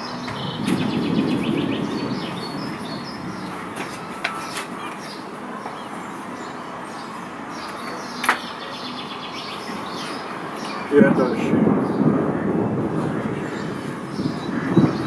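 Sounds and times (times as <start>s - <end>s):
birds chirping: 0.0s - 15.0s
wind rushing in trees: 0.0s - 15.0s.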